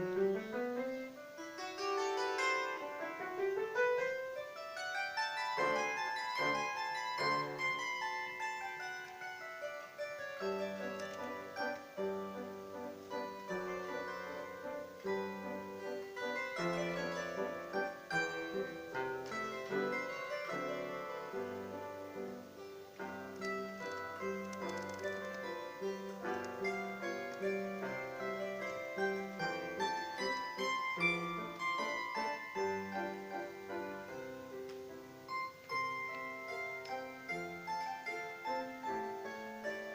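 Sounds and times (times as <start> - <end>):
plucked string melody: 0.0 - 39.9.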